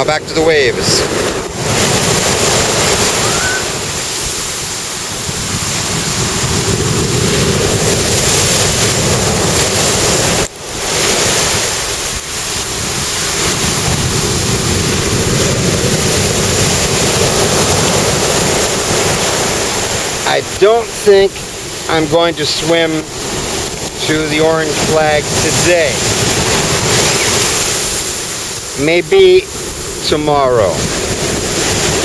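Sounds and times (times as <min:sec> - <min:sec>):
ocean waves breaking: 0:00.0 - 0:32.0.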